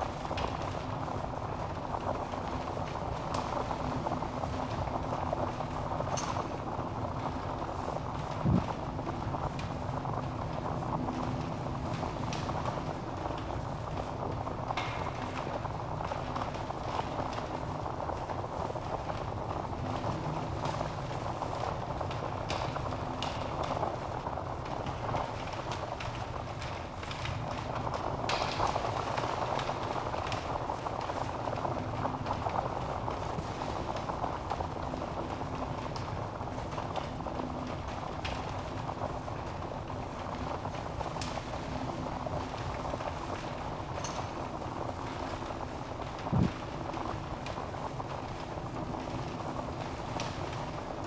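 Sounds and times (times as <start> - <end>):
wood fire crackling in fireplace: 0.0 - 51.0.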